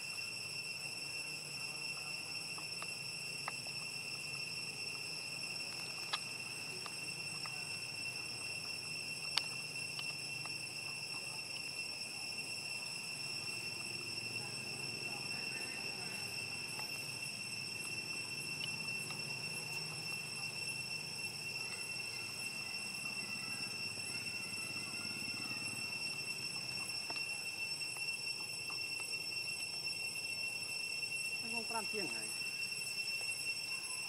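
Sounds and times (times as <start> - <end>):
high-pitched insect drone: 0.0 - 34.0
high-pitched whine: 0.0 - 34.0.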